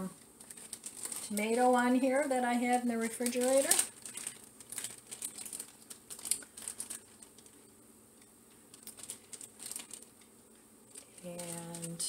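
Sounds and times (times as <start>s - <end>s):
plastic bag crinkling: 0.4s - 7.7s, 8.6s - 10.2s, 10.9s - 12.0s.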